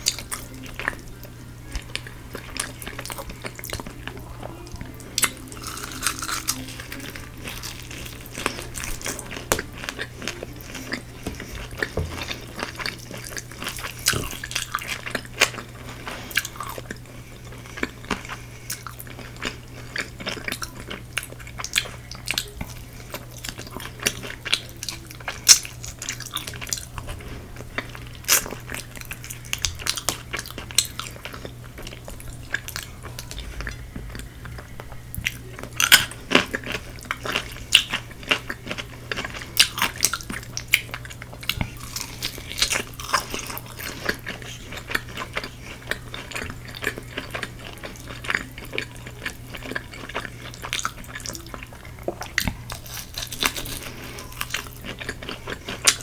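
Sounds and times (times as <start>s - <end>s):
crunchy chewing: 0.0s - 56.0s
steady low hum: 0.0s - 56.0s.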